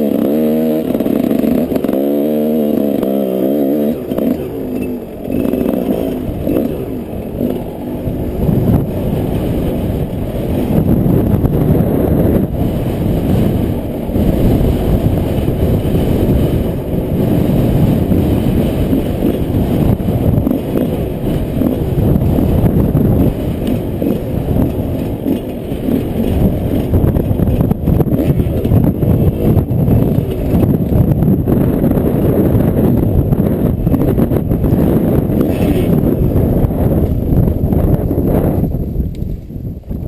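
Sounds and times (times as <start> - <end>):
motorcycle engine running: 0.0 - 40.0
wind buffeting on microphone: 0.0 - 40.0.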